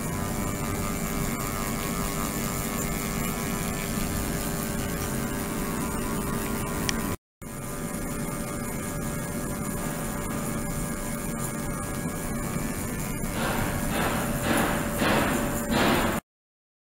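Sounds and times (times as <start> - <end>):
ultrasonic tank humming and hissing: 0.0 - 16.2.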